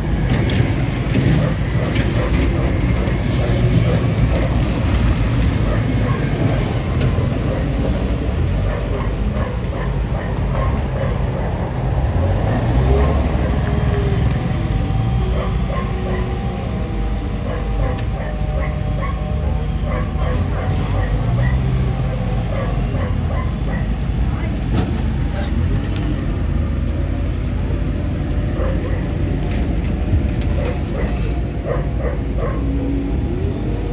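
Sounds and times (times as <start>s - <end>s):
bulldozer diesel engine rumbling: 0.0s - 33.9s.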